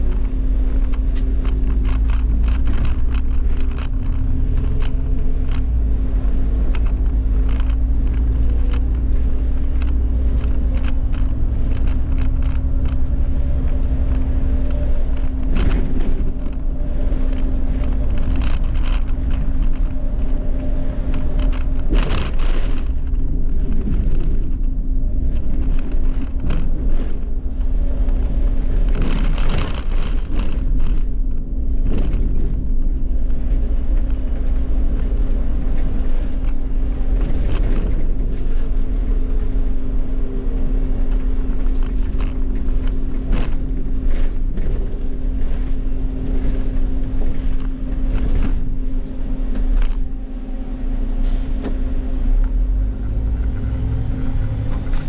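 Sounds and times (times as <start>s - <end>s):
bus engine hum: 0.0s - 55.0s
road rumble: 0.0s - 55.0s.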